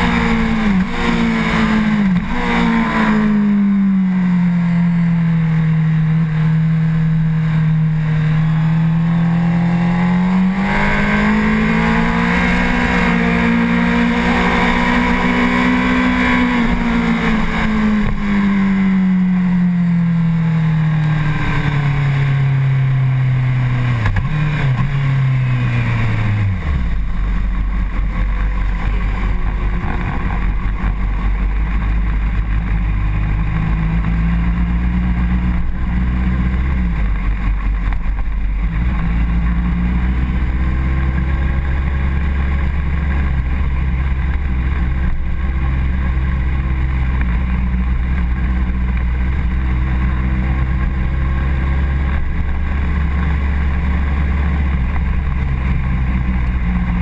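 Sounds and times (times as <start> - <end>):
motorcycle engine at low revs: 0.0 - 57.0.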